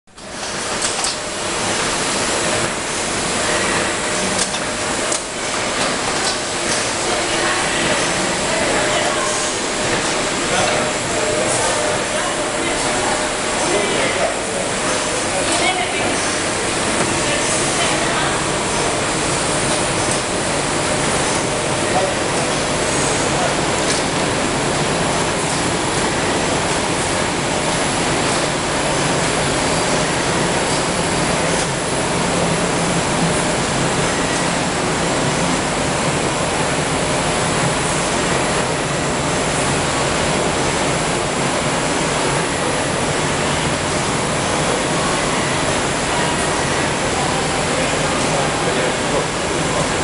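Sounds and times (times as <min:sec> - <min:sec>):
conveyor belts running: 0:00.1 - 0:50.0.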